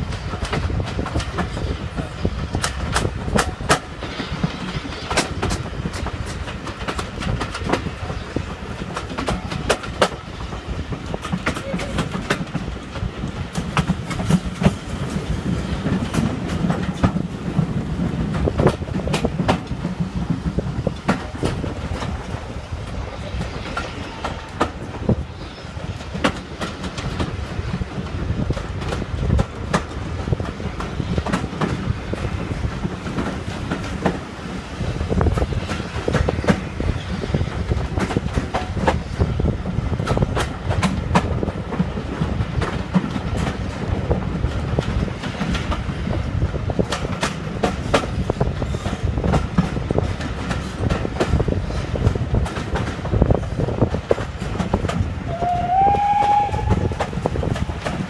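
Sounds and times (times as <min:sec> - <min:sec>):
train rumble: 0:00.0 - 0:58.0
train wheels clicking over rail joints: 0:00.0 - 0:58.0.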